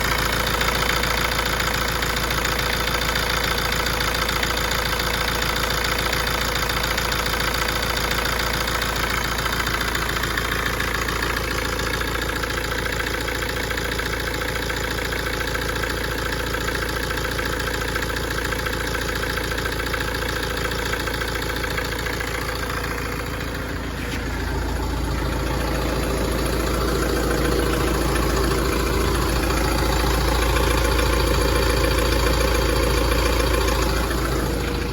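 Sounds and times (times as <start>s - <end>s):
car engine idling: 0.0s - 34.9s
fast clicking from engine: 0.0s - 34.9s.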